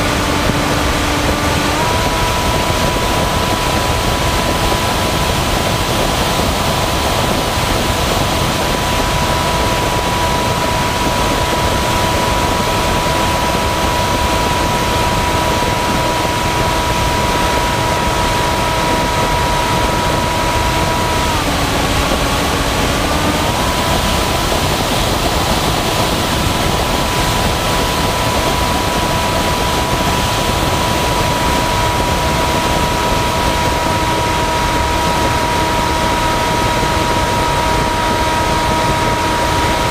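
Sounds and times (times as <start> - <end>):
propeller motor whine: 0.0 - 39.9
wind rush: 0.0 - 39.9.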